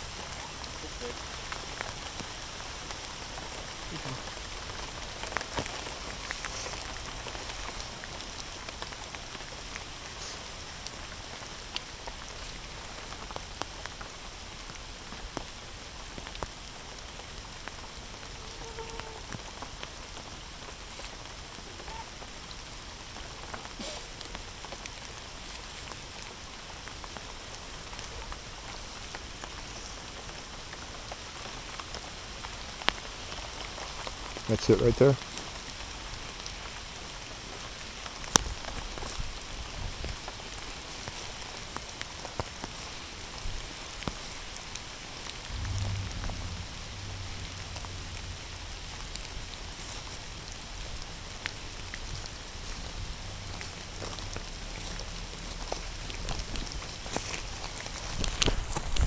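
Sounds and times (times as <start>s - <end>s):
heavy rain falling: 0.0s - 59.0s
raindrops tapping surfaces: 0.0s - 59.0s.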